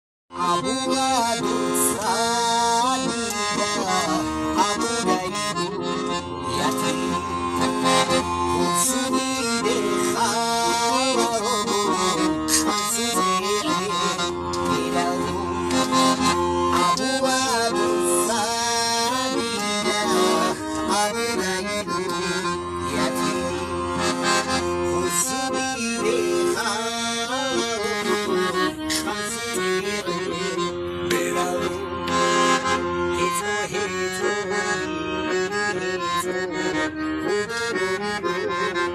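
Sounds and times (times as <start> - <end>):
accordion music: 0.3 - 38.9.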